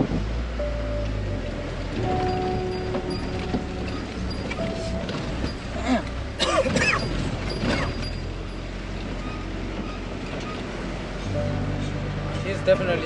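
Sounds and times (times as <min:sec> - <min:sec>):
truck engine running: 0:00.0 - 0:13.0
truck body creaking and squealing: 0:01.9 - 0:12.6.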